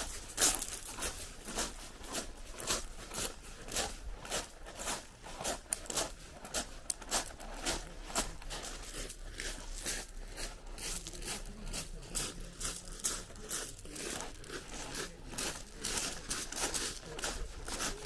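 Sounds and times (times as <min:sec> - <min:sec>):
pebbles crunching: 0:00.0 - 0:18.0.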